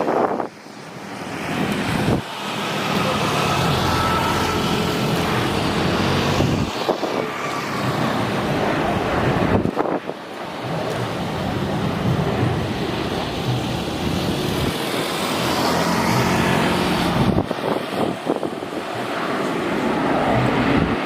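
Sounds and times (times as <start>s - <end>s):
jet engines passing: 0.0s - 21.0s.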